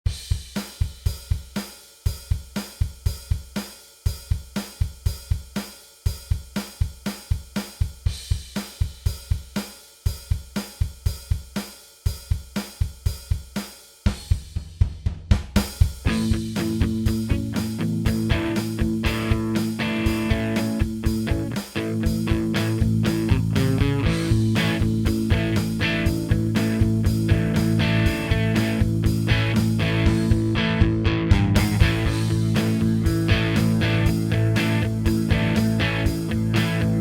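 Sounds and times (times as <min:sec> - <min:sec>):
rock drum kit beat: 0:00.0 - 0:37.0.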